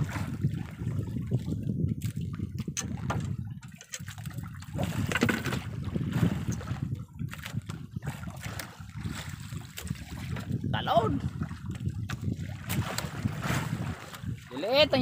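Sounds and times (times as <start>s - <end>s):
water lapping against boat hull: 0.0s - 15.0s
wind rumble on microphone: 0.0s - 15.0s.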